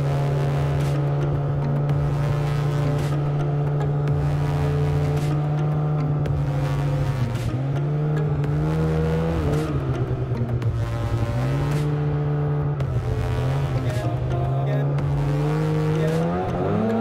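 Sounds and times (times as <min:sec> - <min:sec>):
snowmobile engine running hard: 0:00.0 - 0:17.0.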